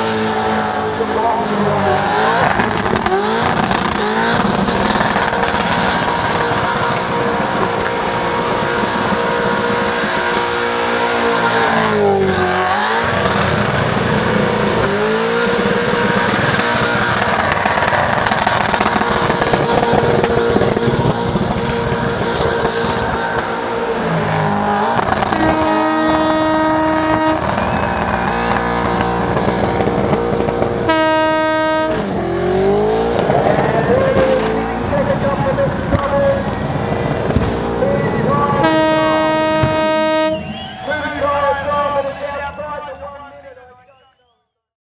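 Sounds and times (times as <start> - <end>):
car engine revving high: 0.0 - 41.7
steady pitched tone: 0.6 - 41.6.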